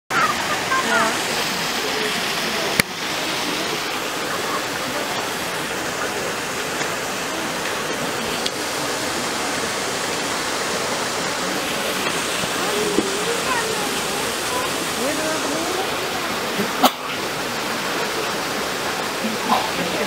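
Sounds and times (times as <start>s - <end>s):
running water rushing: 0.1s - 20.0s.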